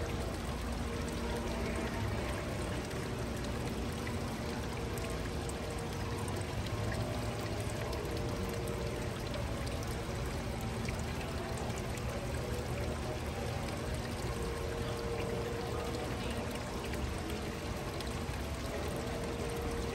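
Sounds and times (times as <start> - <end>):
running water rushing: 0.0 - 19.9.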